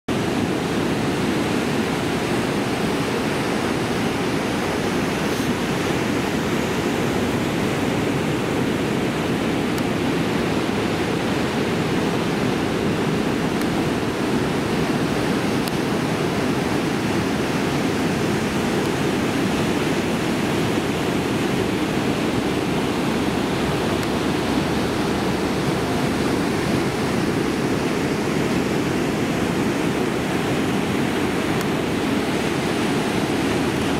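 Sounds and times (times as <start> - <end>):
ocean waves breaking: 0.1 - 33.9.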